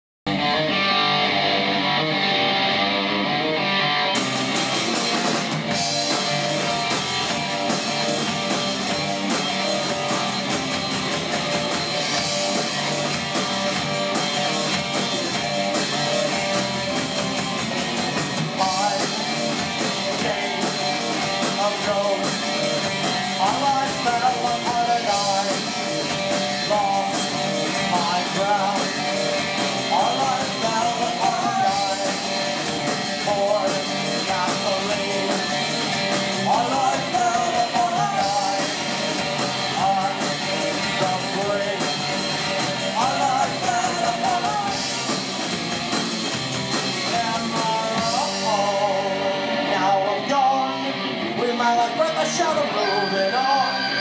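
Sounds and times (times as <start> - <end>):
electric bass: 0.3 - 54.0
electric guitar: 0.3 - 54.0
keyboard: 0.3 - 54.0
drum kit: 3.7 - 52.8.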